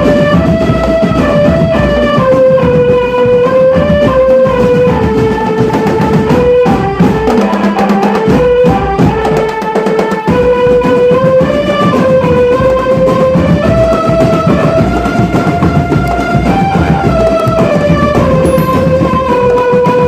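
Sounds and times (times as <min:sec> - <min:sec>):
dense drum beat: 0:00.0 - 0:20.0
held melody notes: 0:00.0 - 0:20.0.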